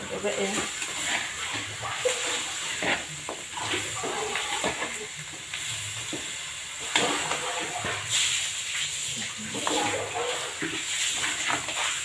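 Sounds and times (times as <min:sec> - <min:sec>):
meat sizzling in a wok: 0:00.0 - 0:12.0
spatula scraping a pan: 0:00.0 - 0:12.0.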